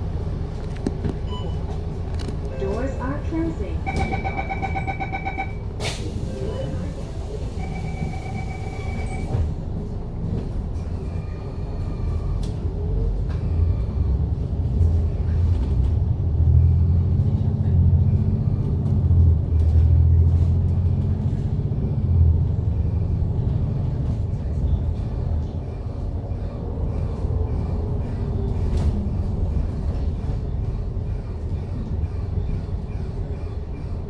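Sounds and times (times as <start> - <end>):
bus diesel engine rumble: 0.0 - 34.0.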